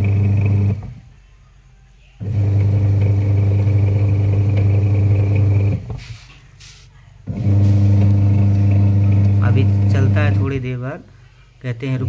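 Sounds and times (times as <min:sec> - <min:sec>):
washing machine motor humming: 0:00.0 - 0:01.1, 0:02.2 - 0:11.0.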